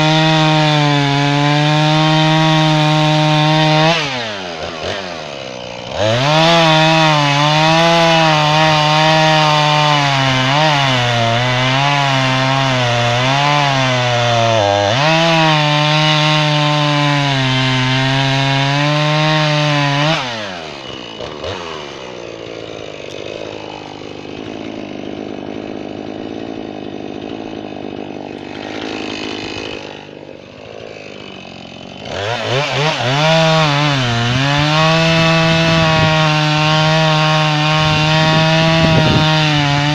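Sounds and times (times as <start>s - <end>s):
chainsaw cutting wood: 0.0s - 39.9s
chainsaw idling: 0.0s - 39.9s.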